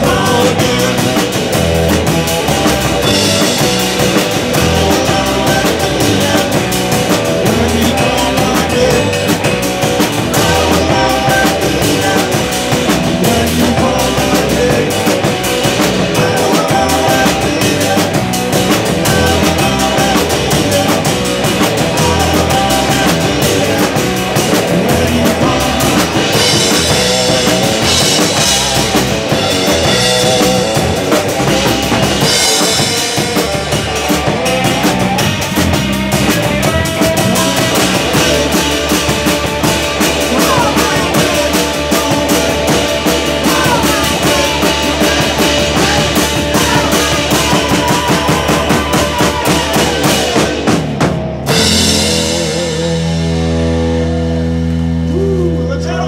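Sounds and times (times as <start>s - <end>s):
held guitar and bass chord: 0.0s - 56.0s
live rock band playing: 0.0s - 56.0s.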